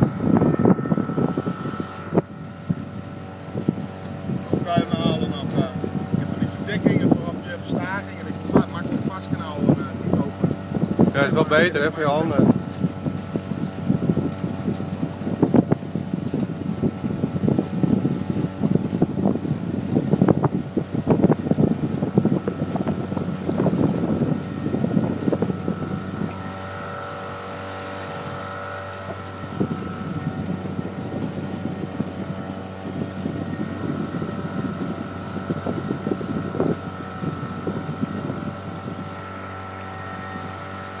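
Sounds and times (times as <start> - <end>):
boat engine running: 0.0 - 41.0
wind buffeting microphone: 0.0 - 41.0.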